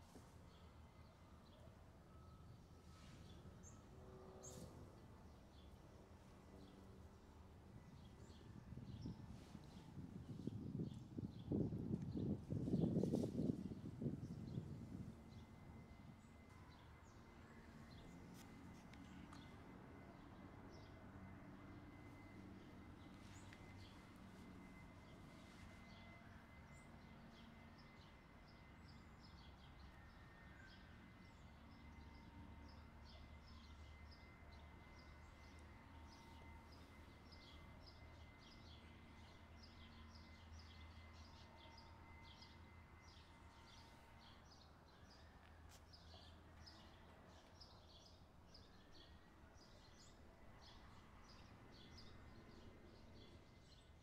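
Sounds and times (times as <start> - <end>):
low outdoor hum: 0.0 - 54.0.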